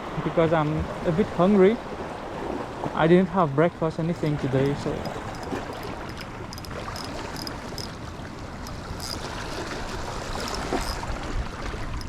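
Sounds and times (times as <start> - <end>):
sea water washing along shore: 0.0 - 12.0.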